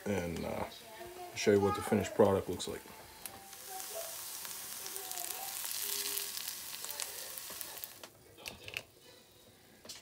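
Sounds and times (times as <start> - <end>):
vegetables sizzling in a frying pan: 0.0 - 8.1.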